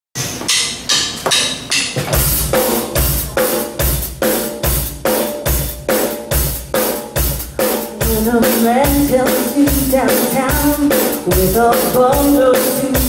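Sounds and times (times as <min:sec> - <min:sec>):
drum kit beat: 0:00.2 - 0:13.0
rock band playing: 0:01.6 - 0:13.0.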